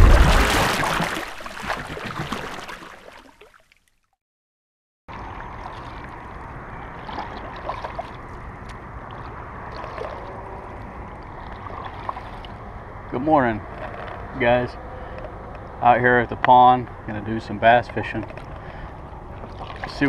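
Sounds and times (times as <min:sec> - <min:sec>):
water gurgling and dripping: 0:00.0 - 0:04.1, 0:05.1 - 0:15.8, 0:17.8 - 0:20.0.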